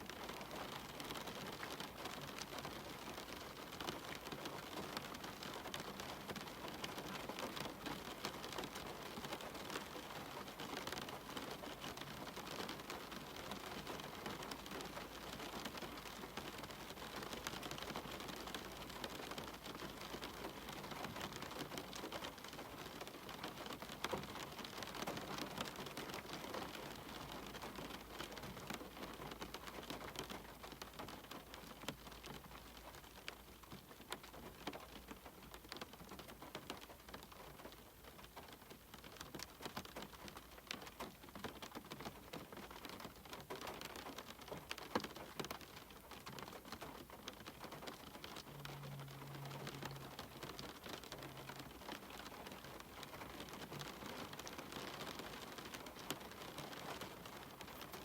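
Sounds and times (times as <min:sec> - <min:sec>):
faint steady rain: 0:00.0 - 0:58.0.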